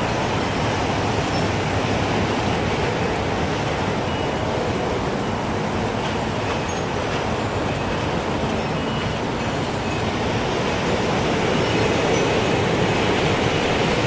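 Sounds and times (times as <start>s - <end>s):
wind chime tone: 0.0s - 2.5s, 4.0s - 5.5s, 6.3s - 14.0s
rushing wind: 0.0s - 14.0s.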